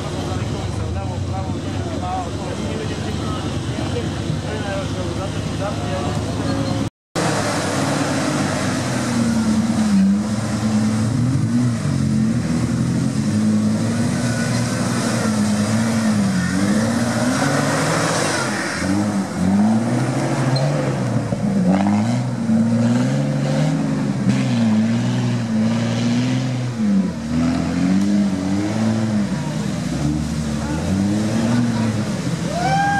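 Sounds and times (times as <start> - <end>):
car engine revving: 0.0 - 32.6.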